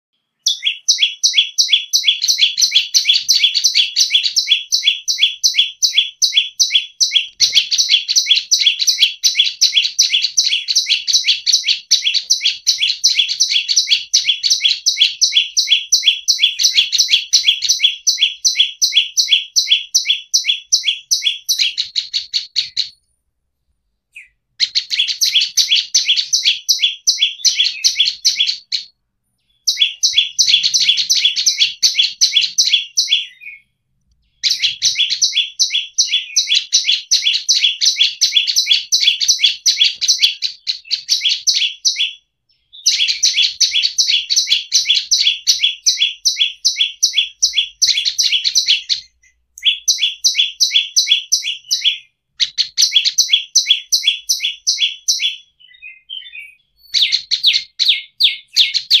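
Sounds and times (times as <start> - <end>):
bird singing high chirps: 0.2 - 23.2, 24.1 - 59.0.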